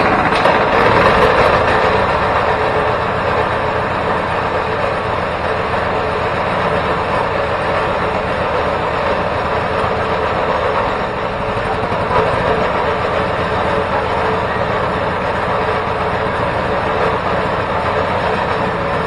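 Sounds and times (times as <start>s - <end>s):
twin engine running: 0.0s - 19.0s.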